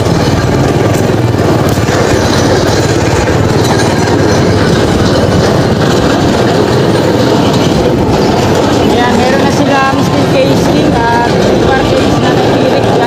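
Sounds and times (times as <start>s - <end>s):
vehicle engine and road rumble: 0.0s - 13.0s
wind on microphone: 0.0s - 13.0s.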